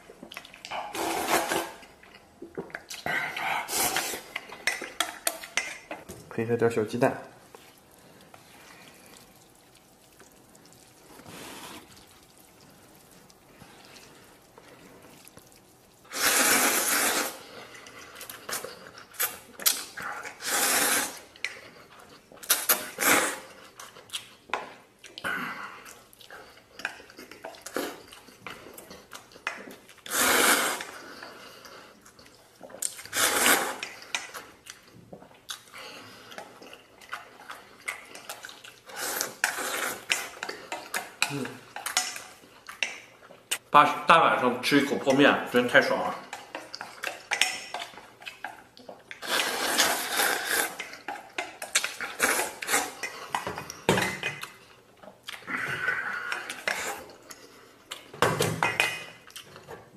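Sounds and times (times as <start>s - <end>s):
noodles being slurped: 0.2s - 5.9s, 7.4s - 24.3s, 25.8s - 43.6s, 46.2s - 58.1s.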